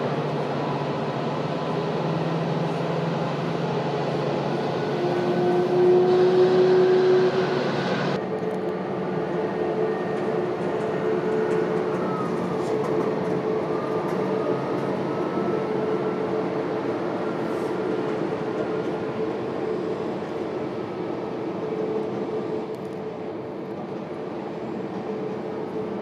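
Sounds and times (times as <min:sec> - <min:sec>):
jet engines rumbling and whining: 0:00.0 - 0:26.0.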